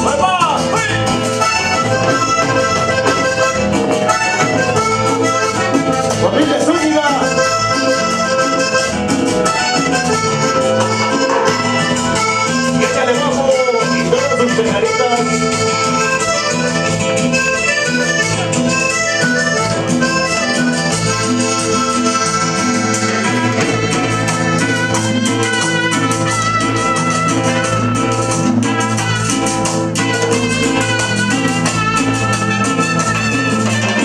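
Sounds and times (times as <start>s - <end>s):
accordion melody: 0.0s - 34.0s
repeating bass line: 0.0s - 34.0s
steady percussion: 0.0s - 34.0s.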